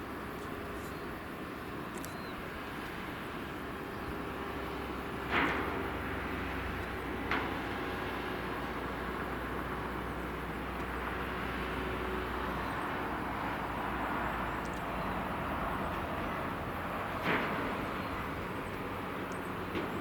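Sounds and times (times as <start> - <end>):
distant jet engine rush: 0.0 - 20.0.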